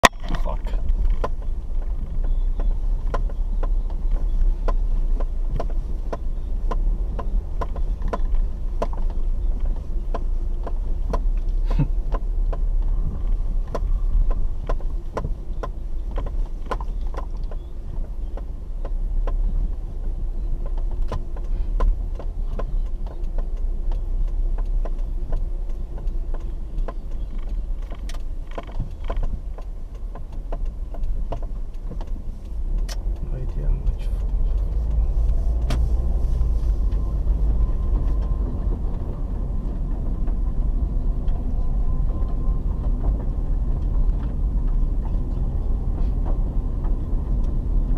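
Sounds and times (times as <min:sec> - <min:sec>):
car engine and tyres rumbling: 0:00.0 - 0:47.9.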